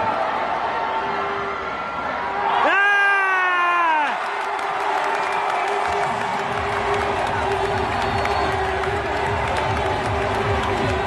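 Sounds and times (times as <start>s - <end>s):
crowd cheering and clapping: 0.0s - 11.0s
stadium cheer music: 0.0s - 11.0s.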